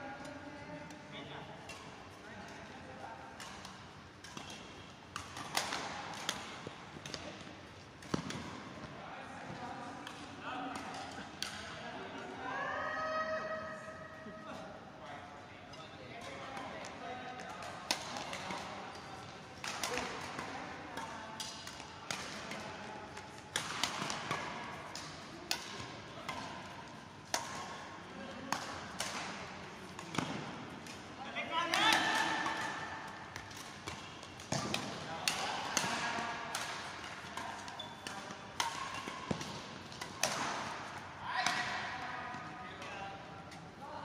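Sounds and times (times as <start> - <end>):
rackets hitting shuttlecock: 1.3 - 12.3, 16.2 - 43.6.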